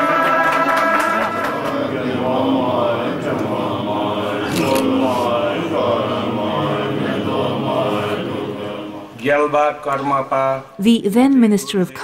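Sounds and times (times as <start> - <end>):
monks chanting: 0.0 - 9.8.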